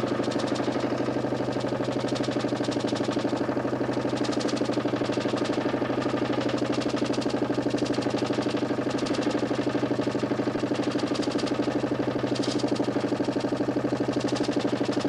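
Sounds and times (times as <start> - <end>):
electric motor humming with rapid pulsing: 0.0 - 15.0.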